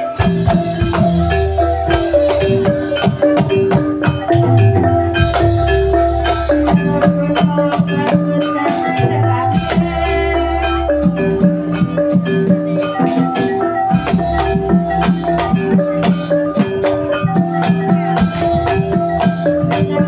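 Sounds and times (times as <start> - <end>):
gamelan music: 0.0 - 20.0.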